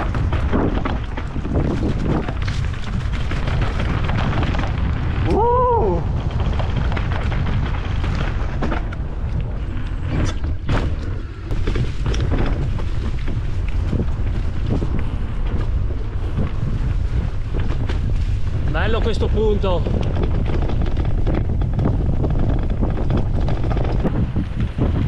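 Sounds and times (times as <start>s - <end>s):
bike knocks and rattles: 0.0s - 25.0s
wind buffeting: 0.0s - 25.0s.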